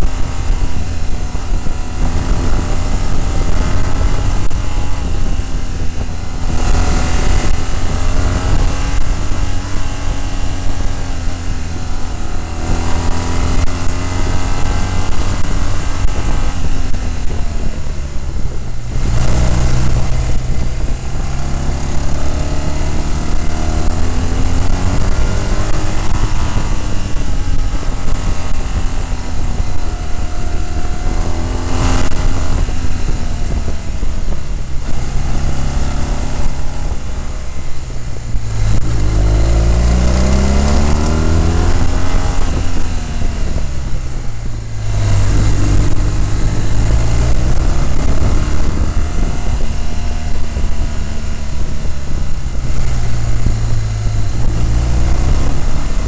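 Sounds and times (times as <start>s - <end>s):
motorcycle engine revving: 0.0s - 56.0s
wind buffeting microphone: 0.0s - 56.0s.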